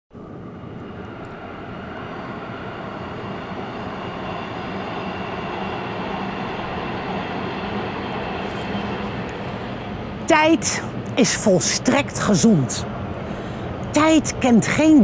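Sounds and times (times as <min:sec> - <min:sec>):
metro train rumble: 0:00.1 - 0:15.0.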